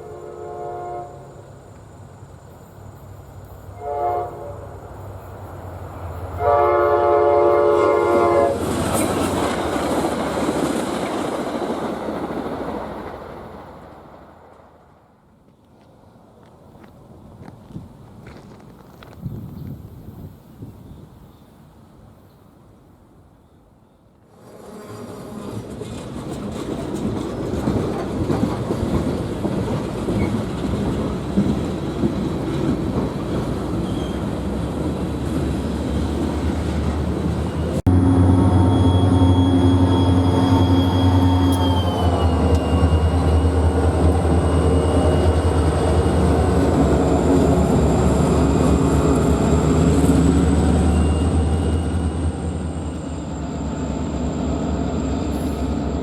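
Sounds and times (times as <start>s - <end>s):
diesel locomotive engine drone: 0.0s - 23.2s, 24.3s - 56.0s
freight train cars rattling: 1.5s - 15.0s, 24.3s - 56.0s.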